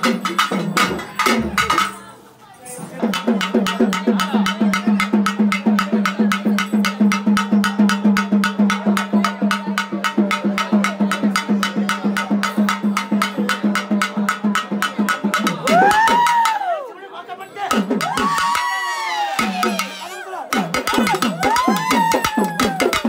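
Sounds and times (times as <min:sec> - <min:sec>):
fast percussion beat: 0:00.0 - 0:16.7, 0:17.6 - 0:23.0.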